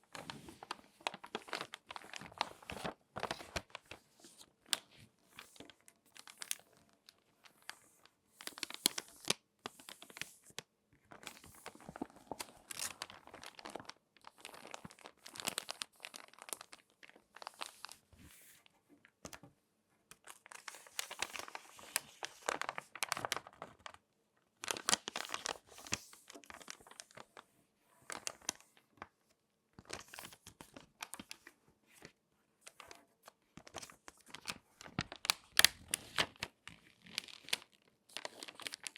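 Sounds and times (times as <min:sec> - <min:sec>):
magazine pages crackling and rustling: 0:00.0 - 0:19.4, 0:20.2 - 0:24.0, 0:24.6 - 0:29.2, 0:29.8 - 0:38.9.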